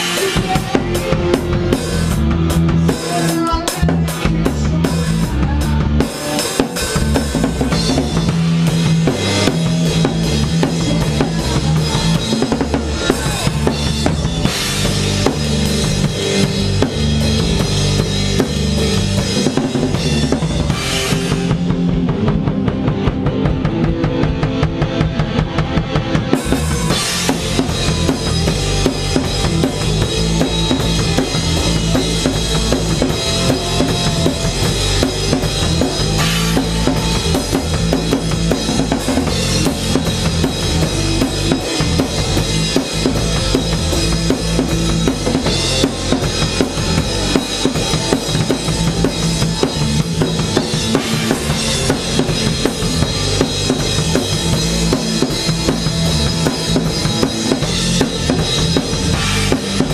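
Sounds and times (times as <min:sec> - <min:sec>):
live band playing: 0:00.0 - 0:59.9.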